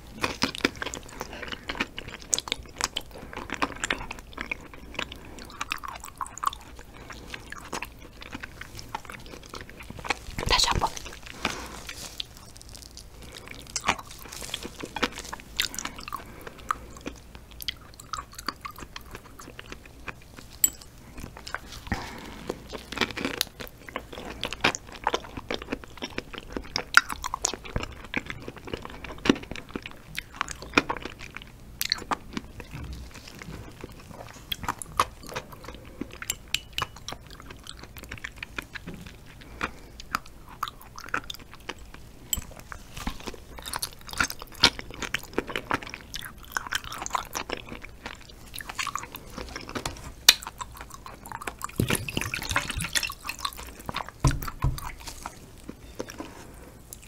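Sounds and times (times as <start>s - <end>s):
chewing with clicks and smacks: 0.0s - 57.0s.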